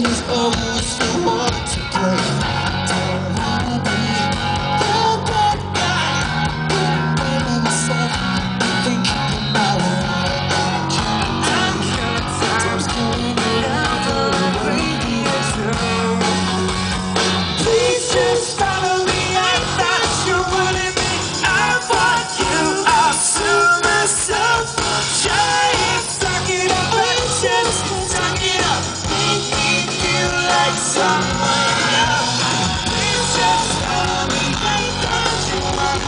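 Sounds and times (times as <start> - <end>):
person singing: 0.0 - 16.8, 17.6 - 36.0
bass guitar: 0.0 - 36.0
drums: 0.0 - 36.0
electric guitar: 0.0 - 36.0.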